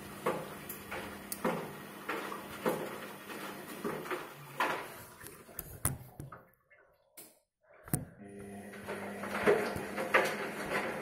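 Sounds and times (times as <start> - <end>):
water sloshing in washing machine drum: 0.0 - 11.0.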